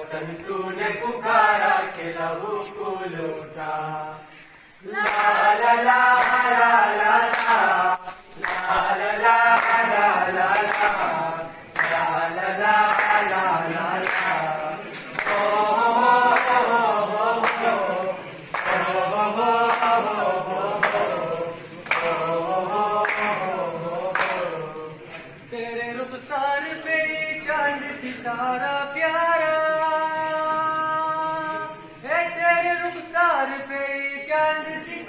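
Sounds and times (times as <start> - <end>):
boys singing in chorus: 0.0 - 35.0.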